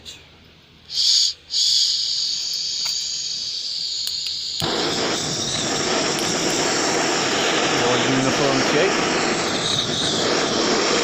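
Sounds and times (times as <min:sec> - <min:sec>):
blowtorch hissing and roaring: 0:00.9 - 0:11.0.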